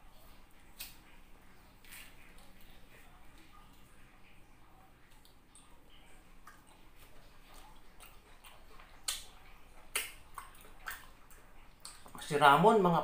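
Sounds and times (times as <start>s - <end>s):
wet chewing smacks: 1.8s - 12.3s.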